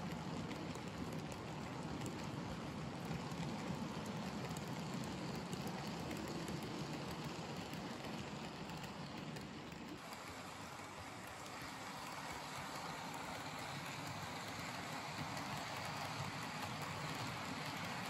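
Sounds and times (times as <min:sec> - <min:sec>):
model train wagons rolling on track: 0:00.0 - 0:18.0.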